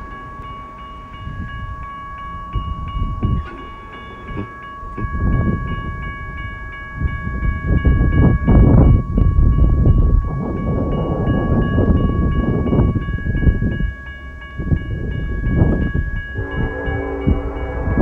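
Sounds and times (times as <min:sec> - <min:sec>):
railroad crossing bell ringing: 0:00.0 - 0:18.0
wind buffeting microphone: 0:00.0 - 0:18.0.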